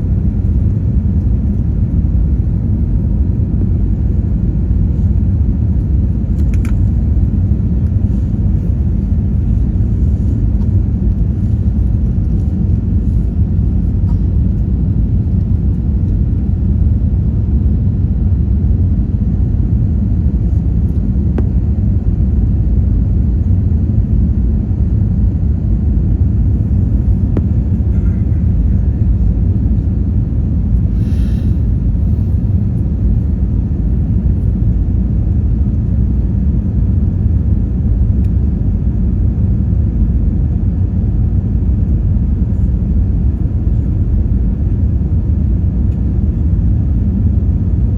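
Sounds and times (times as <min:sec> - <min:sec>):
jet cabin engine rumble: 0:00.0 - 0:47.9.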